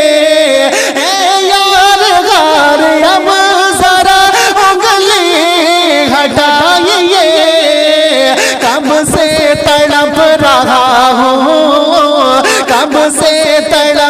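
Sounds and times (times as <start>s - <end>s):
wordless vocal melody: 0.0s - 14.0s.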